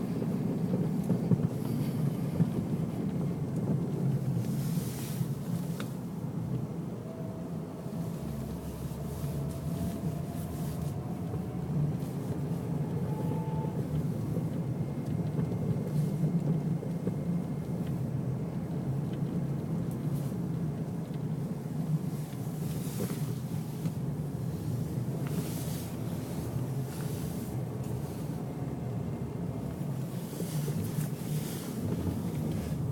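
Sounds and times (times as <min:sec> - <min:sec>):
faint engine ticks: 0:00.0 - 0:06.8, 0:08.1 - 0:32.9
car engine running: 0:00.0 - 0:32.9.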